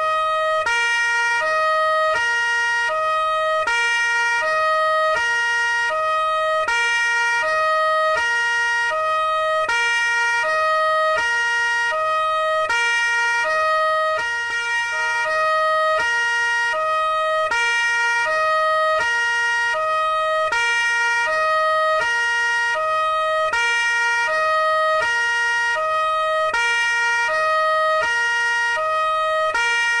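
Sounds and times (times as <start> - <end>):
two-tone police siren: 0.0 - 30.0.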